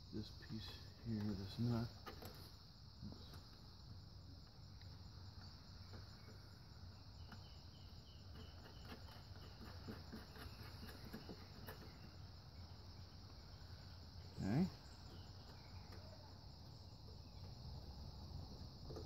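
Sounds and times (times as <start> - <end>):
faint insect chirring: 0.0 - 19.0.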